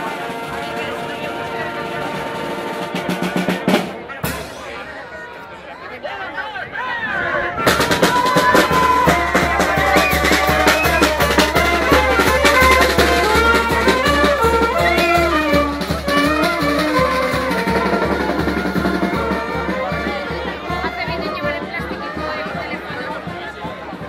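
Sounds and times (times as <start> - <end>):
brass and drum band playing: 0.0 - 5.4, 7.2 - 24.0.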